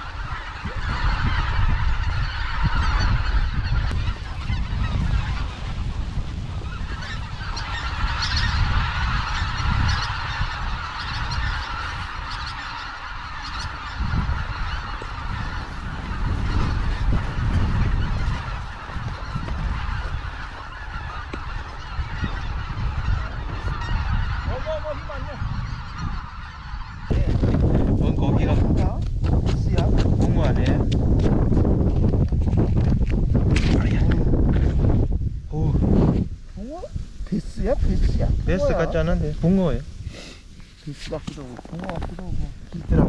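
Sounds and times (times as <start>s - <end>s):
chorus of birds calling: 0.0s - 32.0s, 32.8s - 36.0s, 36.9s - 43.0s
wind rumble on microphone: 0.0s - 43.0s.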